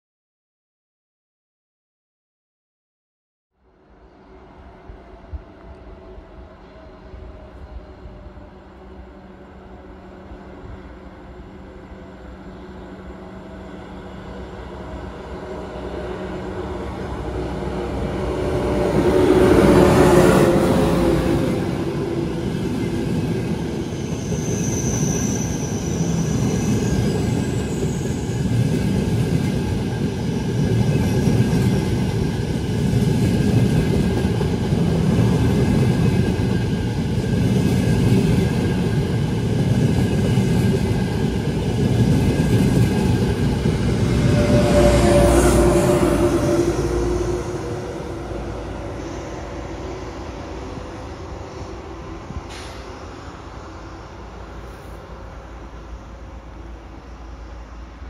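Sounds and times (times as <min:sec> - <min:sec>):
electric train passing: 0:03.7 - 0:58.0.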